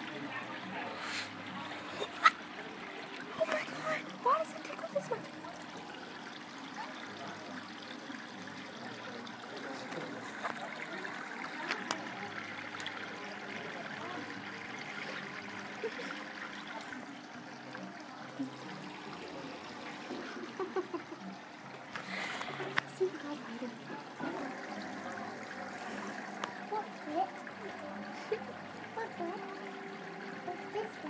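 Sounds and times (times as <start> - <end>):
water trickling in tank: 0.0 - 31.0.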